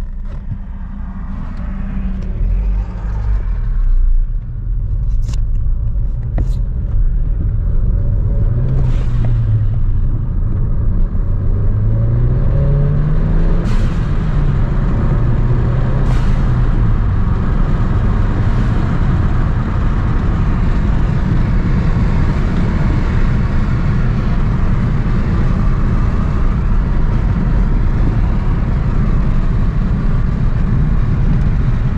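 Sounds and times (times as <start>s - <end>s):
car engine from inside cabin: 0.0s - 31.9s
tyre and road noise: 0.0s - 31.9s.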